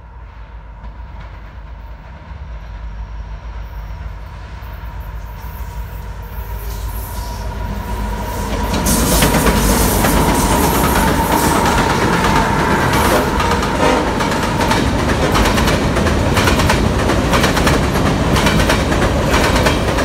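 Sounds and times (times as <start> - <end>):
wheels rushing on rail: 0.0 - 20.0
diesel locomotive rumble: 3.6 - 20.0.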